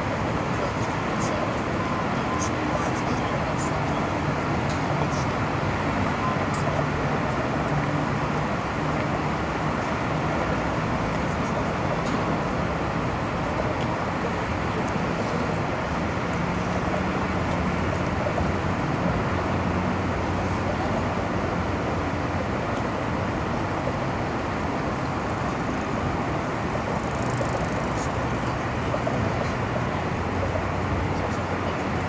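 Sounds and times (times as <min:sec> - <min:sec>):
boat engine drone: 0:00.0 - 0:32.0
rush of water and wind: 0:00.0 - 0:32.0.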